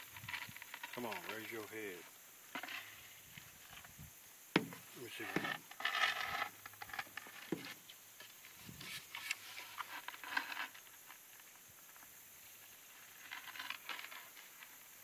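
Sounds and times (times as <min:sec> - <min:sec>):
paddle tapping and scraping stones: 0:00.0 - 0:12.2, 0:13.0 - 0:15.0.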